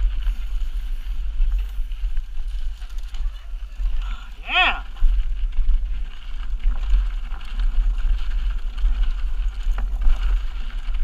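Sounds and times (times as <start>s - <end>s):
bike rattling: 0.0s - 11.0s
tyres crunching on stones: 0.0s - 11.0s
wind rumbling on microphone: 0.0s - 11.0s.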